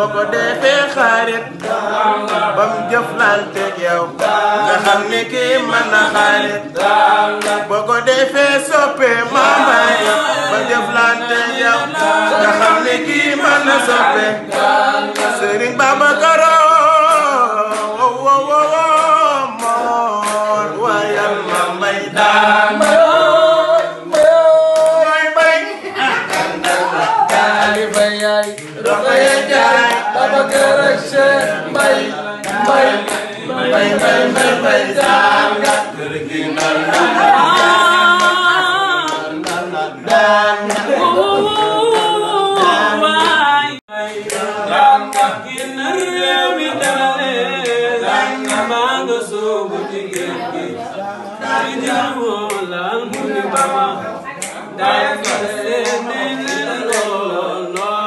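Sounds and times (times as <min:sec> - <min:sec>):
hand claps: 0:00.0 - 0:50.7, 0:51.4 - 0:58.0
men singing unaccompanied: 0:00.0 - 0:58.0.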